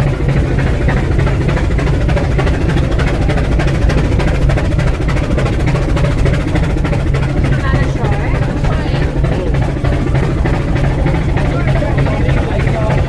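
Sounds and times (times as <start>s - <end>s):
heavy low rumble and clatter: 0.0s - 13.0s
steam locomotive exhaust puffs: 0.0s - 13.0s.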